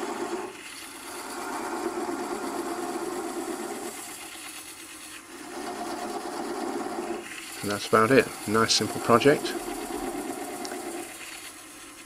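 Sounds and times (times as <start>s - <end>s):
tool cutting spinning wood: 0.0s - 12.0s
wood lathe running: 0.0s - 12.0s.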